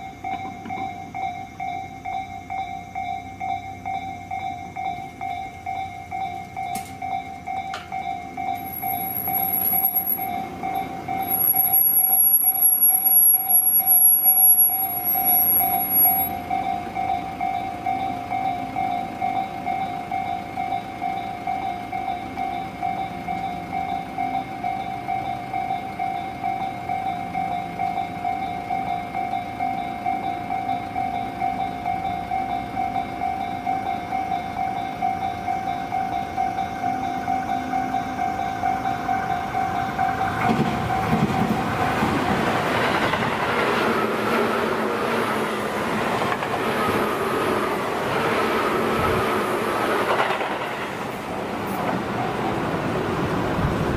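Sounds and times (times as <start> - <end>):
level-crossing warning bell: 0.0 - 53.9
train passing: 0.0 - 53.9.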